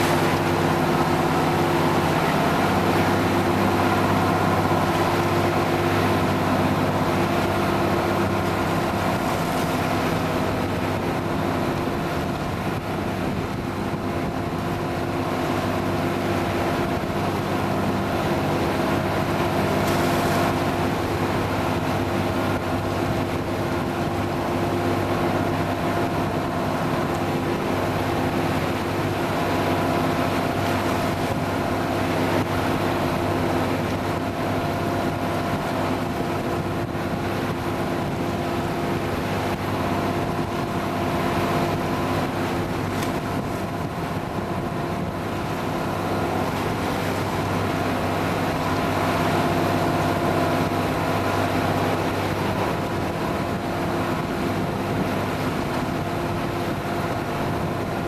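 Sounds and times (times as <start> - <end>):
boat motor running: 0.0 - 58.0
water noise: 0.0 - 58.0
wind: 0.0 - 58.0.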